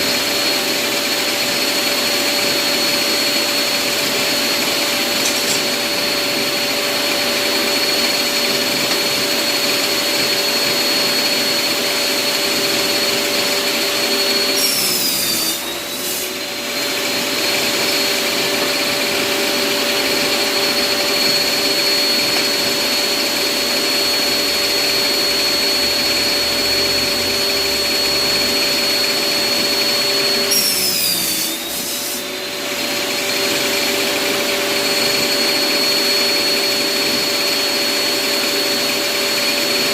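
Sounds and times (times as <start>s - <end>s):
table saw whining: 0.0s - 39.9s.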